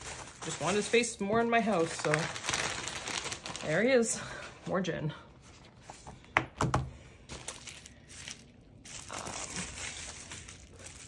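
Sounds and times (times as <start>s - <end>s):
packaging crinkling and rustling: 0.0s - 4.8s, 6.9s - 11.0s.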